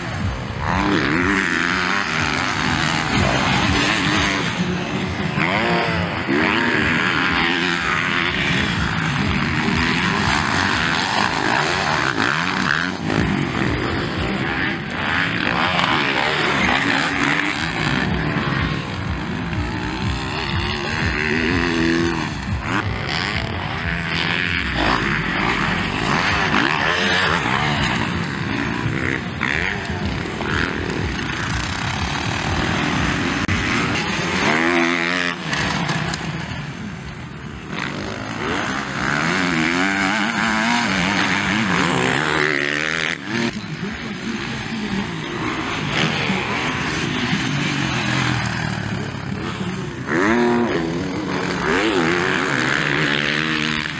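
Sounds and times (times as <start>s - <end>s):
dirt bike engines revving: 0.0s - 53.9s.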